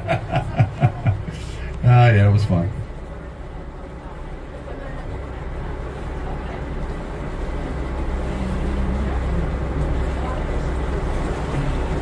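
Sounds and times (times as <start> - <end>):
boat engine droning: 0.0 - 12.0
water wash rushing: 0.0 - 12.0.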